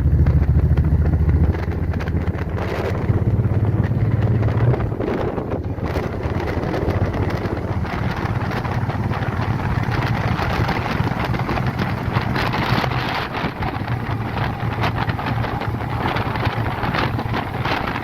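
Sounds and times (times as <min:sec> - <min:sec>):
motorcycle engine drone: 0:00.0 - 0:18.0
wind buffeting microphone: 0:00.0 - 0:18.0.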